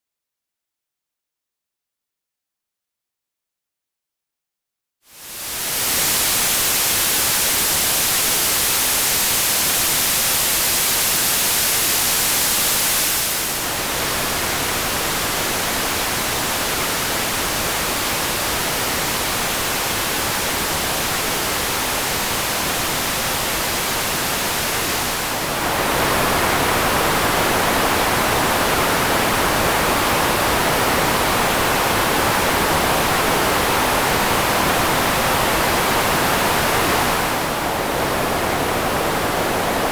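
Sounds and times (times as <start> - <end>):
synthetic white noise hiss: 5.1 - 39.9.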